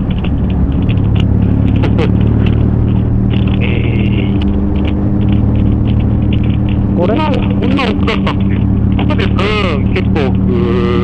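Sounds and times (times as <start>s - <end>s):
motorcycle engine running: 0.0s - 11.0s
road and wind rush: 0.0s - 11.0s.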